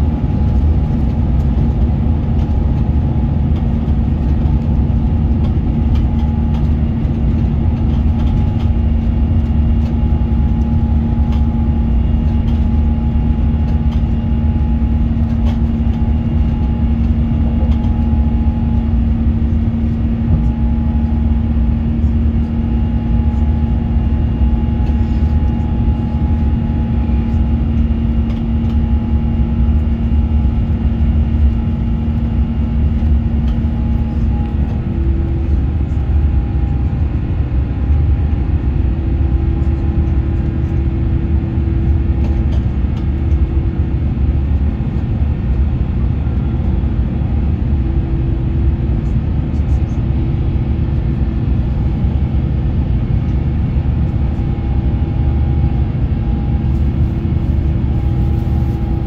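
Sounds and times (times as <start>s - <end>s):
aircraft cabin engine rumble: 0.0s - 59.0s
steady hum: 0.0s - 59.0s.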